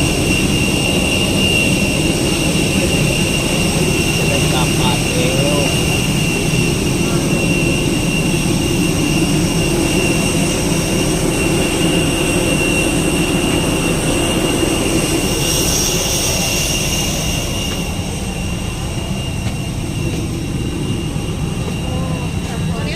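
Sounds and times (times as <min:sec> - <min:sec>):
jet engines running with high whine: 0:00.0 - 0:22.9.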